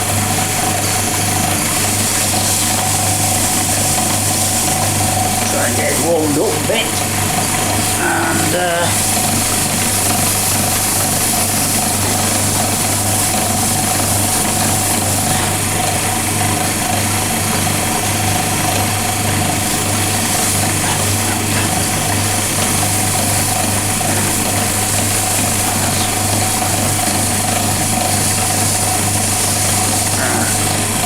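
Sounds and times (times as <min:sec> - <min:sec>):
wood lathe motor humming: 0:00.0 - 0:31.0.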